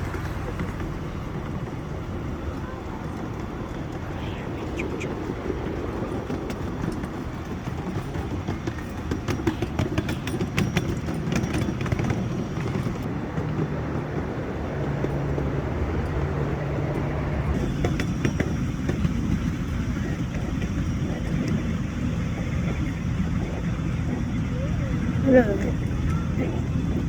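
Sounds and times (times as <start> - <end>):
miniature train rumbling: 0.0 - 27.0
rapid clicking and rattling: 0.0 - 27.0.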